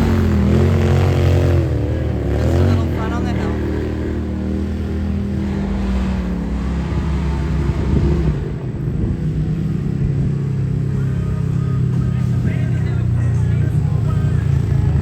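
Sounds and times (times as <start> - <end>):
off-road engines droning: 0.0 - 15.0.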